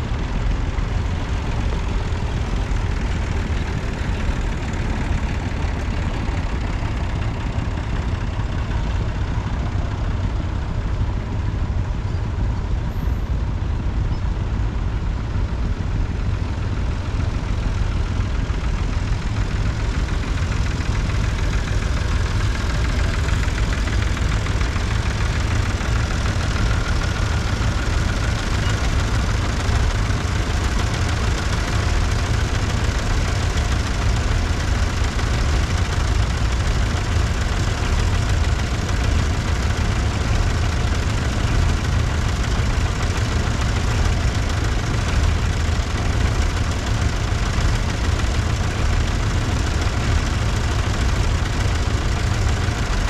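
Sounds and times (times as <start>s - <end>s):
tractor engines idling: 0.0s - 53.0s.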